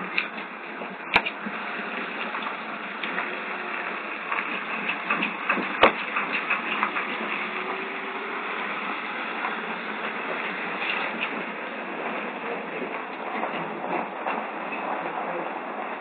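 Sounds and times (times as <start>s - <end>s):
faint vehicle engine: 0.0s - 16.0s
microphone hiss: 0.0s - 16.0s.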